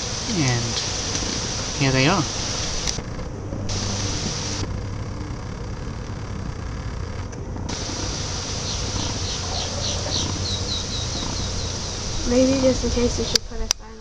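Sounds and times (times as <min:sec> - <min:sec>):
honeybee swarm buzzing: 0:00.0 - 0:13.7.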